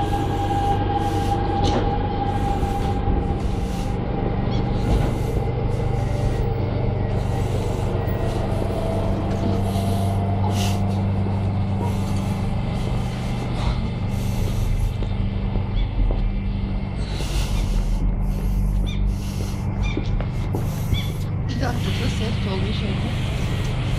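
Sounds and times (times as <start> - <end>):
train interior hum: 0.0 - 23.9.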